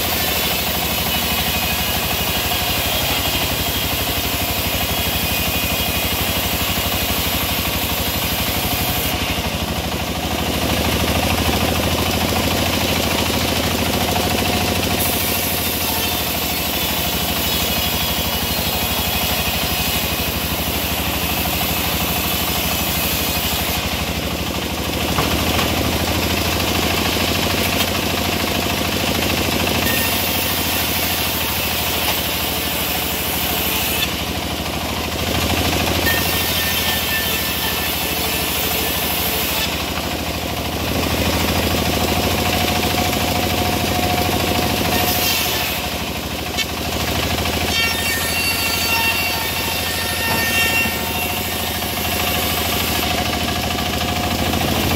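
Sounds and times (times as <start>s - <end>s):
engine-driven saw cutting wood: 0.0s - 54.9s.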